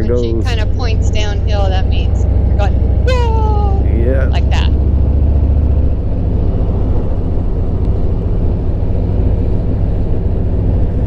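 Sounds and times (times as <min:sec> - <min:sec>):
motorcycle engine rumbling: 0:00.0 - 0:11.0
wind rush: 0:00.0 - 0:11.0.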